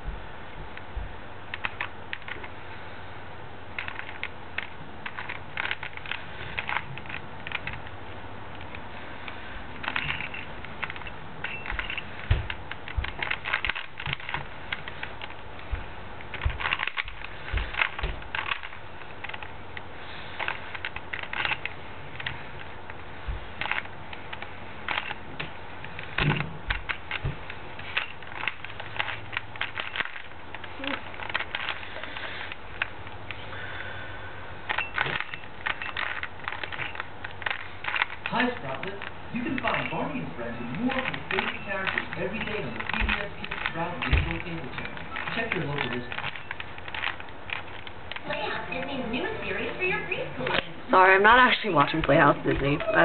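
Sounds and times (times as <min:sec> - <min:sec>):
puzzle cube layers clicking: 0:01.5 - 0:02.5, 0:03.8 - 0:07.9, 0:09.8 - 0:15.4, 0:16.2 - 0:33.4, 0:34.7 - 0:49.6.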